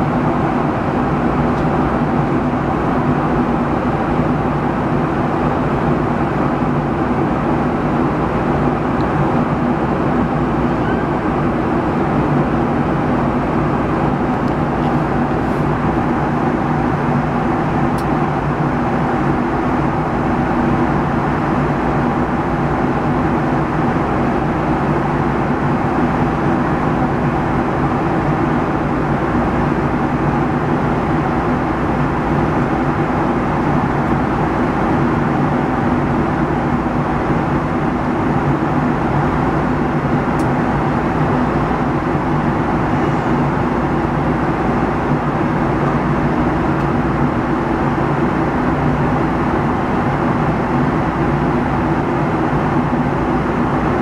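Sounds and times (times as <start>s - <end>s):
aircraft cabin drone: 0.0s - 54.0s.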